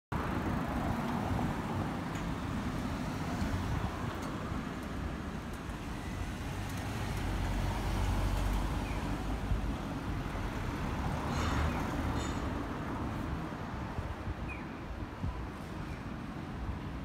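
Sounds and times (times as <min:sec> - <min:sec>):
street traffic rumble: 0:00.1 - 0:17.0.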